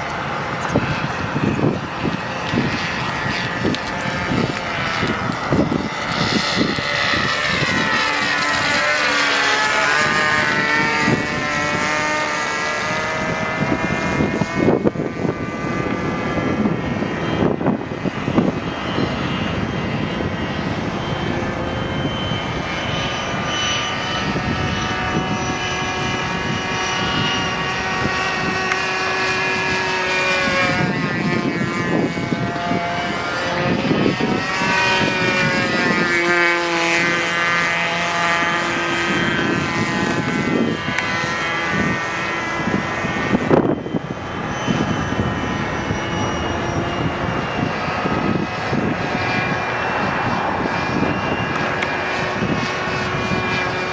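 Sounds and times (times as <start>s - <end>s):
model airplane engine: 0.0s - 53.9s.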